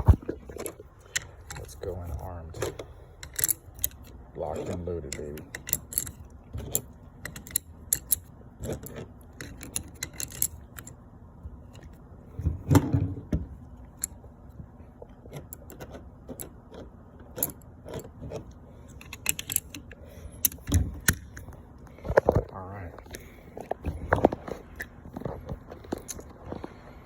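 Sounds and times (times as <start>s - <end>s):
gear clicking and rattling: 0.0s - 11.0s, 15.0s - 27.0s.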